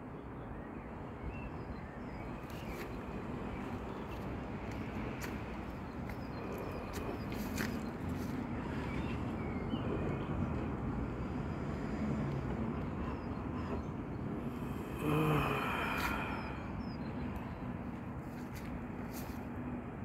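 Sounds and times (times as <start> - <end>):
distant traffic hum: 0.0 - 20.0.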